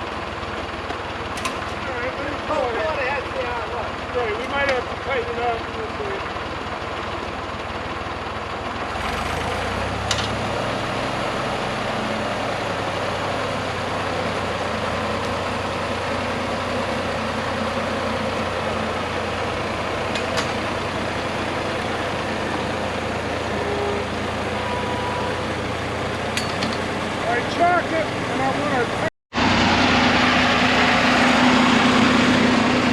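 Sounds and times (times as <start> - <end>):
motor vehicle engine idling: 0.0 - 29.1.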